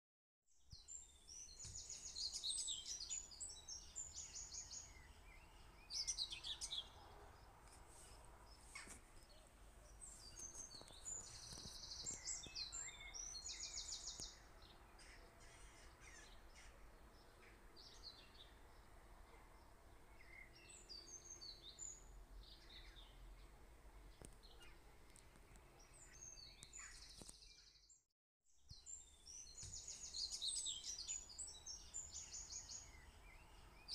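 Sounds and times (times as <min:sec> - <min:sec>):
birds chirping and trilling: 0:00.7 - 0:28.0, 0:28.7 - 0:33.9.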